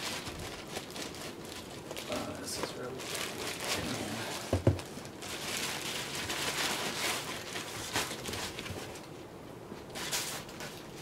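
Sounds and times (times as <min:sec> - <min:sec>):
plastic bag rustling: 0:00.0 - 0:09.2, 0:09.9 - 0:11.0.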